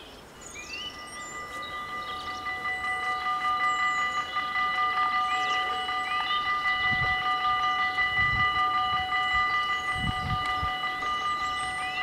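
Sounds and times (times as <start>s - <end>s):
birds chirping: 0.0s - 12.0s
level crossing bells ringing: 0.8s - 12.0s.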